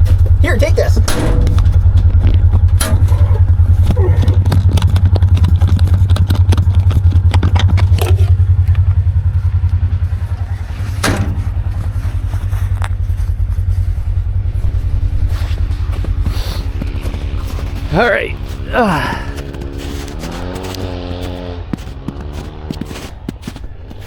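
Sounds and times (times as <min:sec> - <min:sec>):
knocks and clatter: 0:00.0 - 0:24.0
utility vehicle engine idling: 0:00.0 - 0:24.0.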